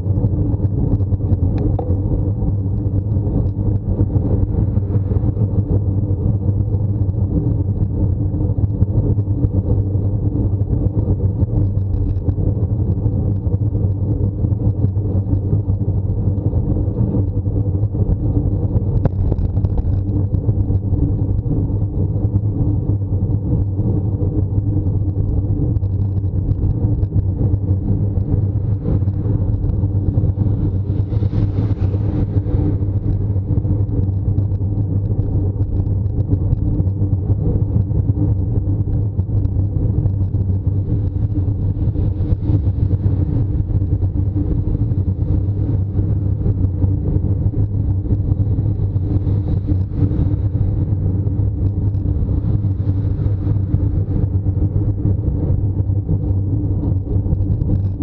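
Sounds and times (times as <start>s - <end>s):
road and wind rumble: 0.0s - 58.0s.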